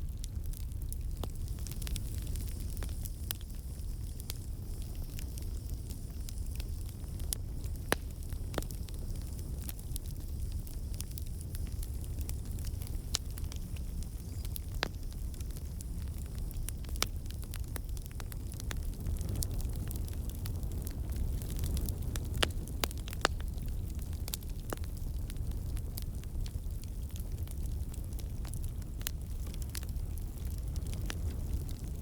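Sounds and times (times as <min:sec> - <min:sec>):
campfire flames rumbling: 0:00.0 - 0:32.0
fire crackles and pops: 0:00.0 - 0:32.0.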